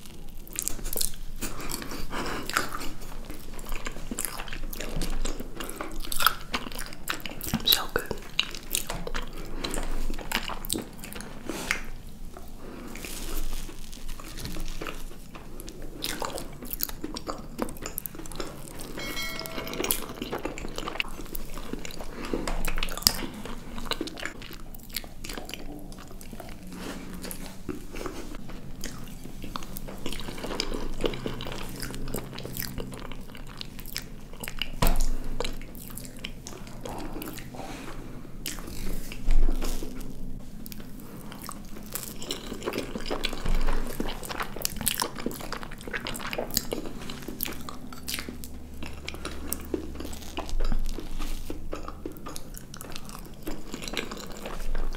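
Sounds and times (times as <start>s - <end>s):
wet mouth clicks chewing: 0.0s - 12.5s, 19.9s - 37.6s, 38.4s - 54.9s.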